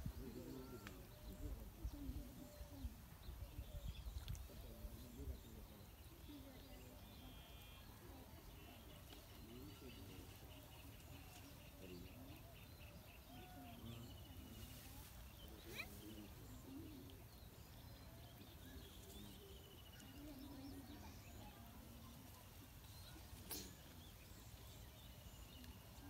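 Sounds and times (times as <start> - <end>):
faint bird calls: 0.0 - 26.0.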